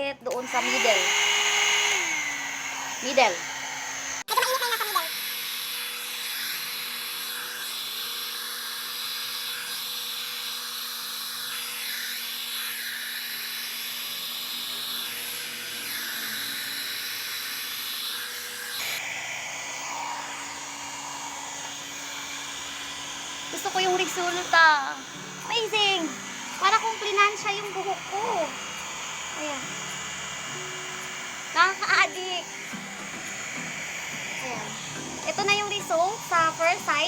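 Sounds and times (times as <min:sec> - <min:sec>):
hot air brush whirring: 0:00.3 - 0:37.0.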